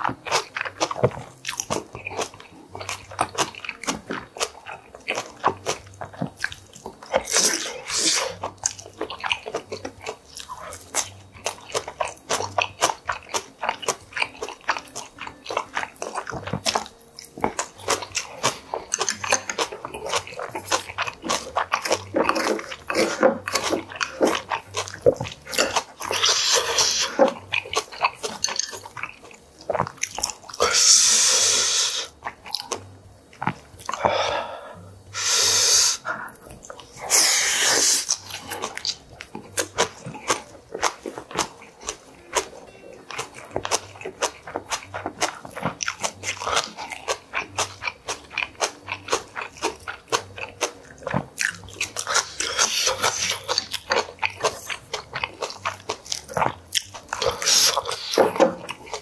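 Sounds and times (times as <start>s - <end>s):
man chewing and crunching food: 0.0s - 59.0s.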